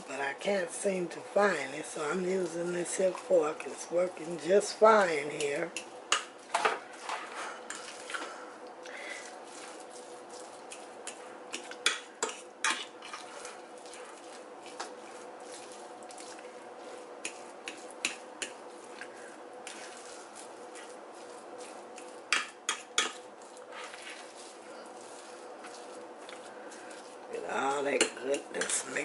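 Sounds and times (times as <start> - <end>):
fork mashing soft food: 2.0 - 29.0.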